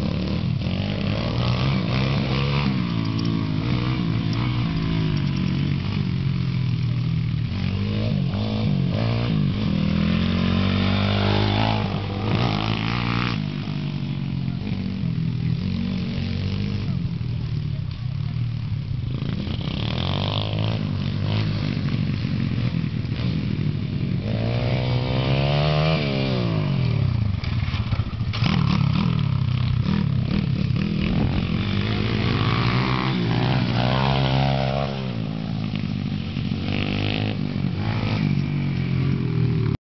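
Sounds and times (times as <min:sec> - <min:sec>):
pit bike engine revving: 0:00.0 - 0:39.8.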